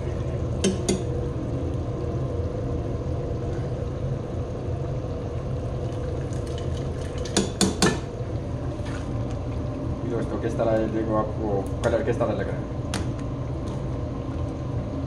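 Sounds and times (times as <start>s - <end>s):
low kitchen rumble: 0.0s - 15.0s.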